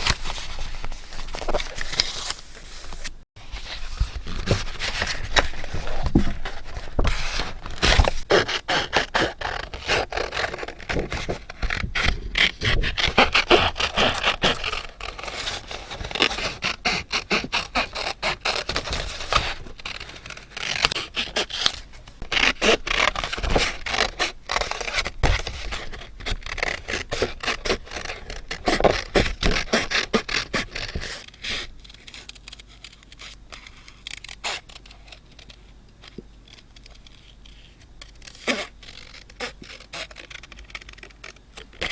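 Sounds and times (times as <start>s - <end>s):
paper scraping and rubbing: 0.0s - 35.6s, 36.5s - 41.9s.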